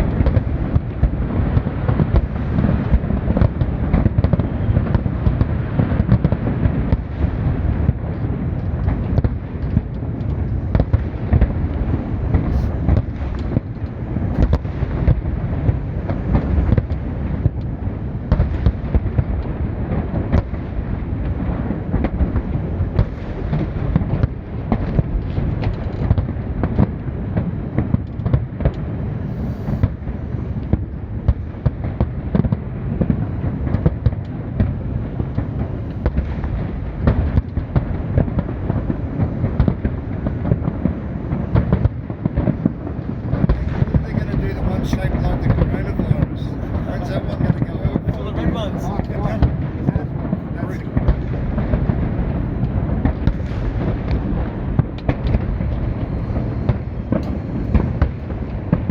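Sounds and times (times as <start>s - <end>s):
fireworks booms and cracks: 0.0s - 58.9s.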